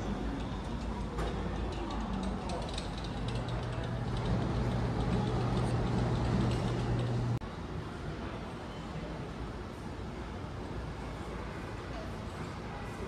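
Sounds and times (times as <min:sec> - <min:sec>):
large hall background noise: 0:00.0 - 0:13.0.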